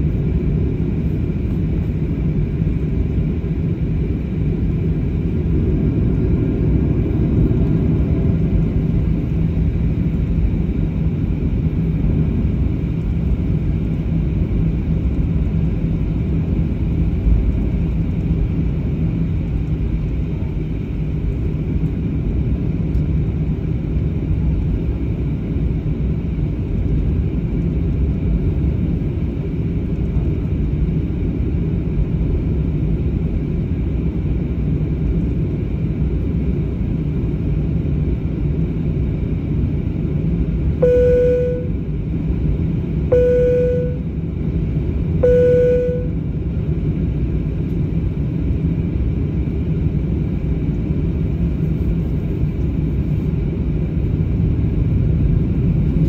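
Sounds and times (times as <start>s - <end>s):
constant low hum: 0.0s - 56.0s
jet engines low rumble: 0.0s - 56.0s.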